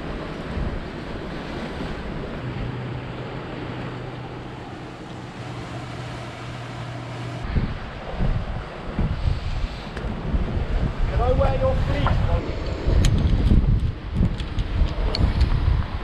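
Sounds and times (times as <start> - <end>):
steady low hum: 0.0 - 14.3
surf washing over rocks: 0.0 - 16.0
wind buffeting microphone: 0.0 - 16.0.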